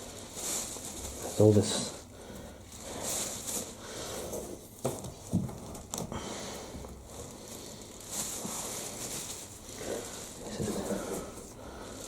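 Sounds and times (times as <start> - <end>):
rustling of lint being pulled: 0.0 - 12.0.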